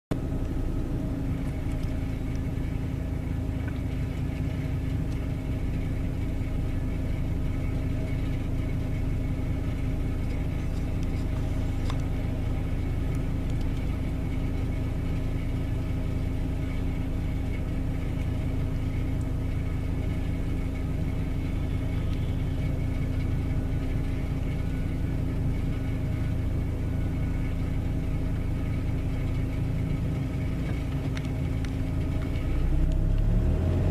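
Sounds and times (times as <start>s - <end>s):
fire engine idling drone: 0.1s - 33.3s.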